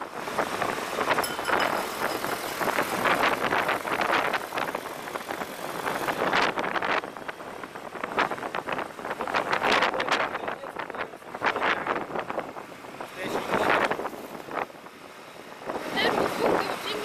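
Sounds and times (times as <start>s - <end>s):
hum of engines: 0.0s - 17.0s
wind rushing over microphone: 0.0s - 17.0s.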